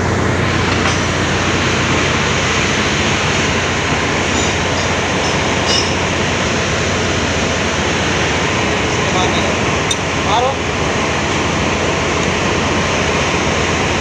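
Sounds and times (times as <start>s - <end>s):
engine room machinery rumble: 0.0s - 14.0s.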